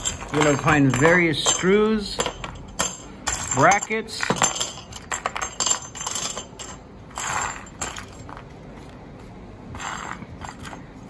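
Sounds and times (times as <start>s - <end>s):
metal screws clinking: 0.0s - 8.5s, 9.8s - 11.0s.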